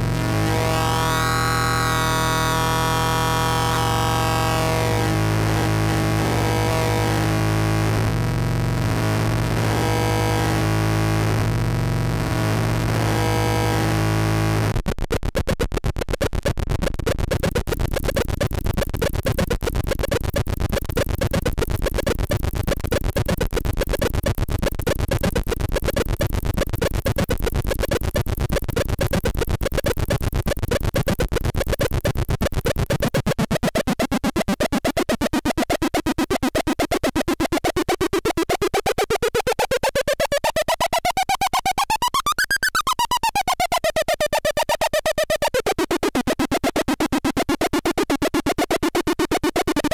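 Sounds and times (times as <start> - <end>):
harsh stuttering synth noise: 0.0 - 49.9.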